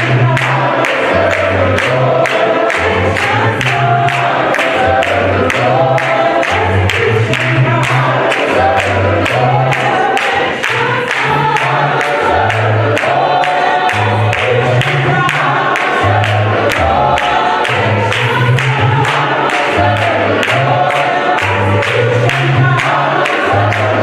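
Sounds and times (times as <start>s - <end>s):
gospel choir singing over band: 0.0s - 24.0s.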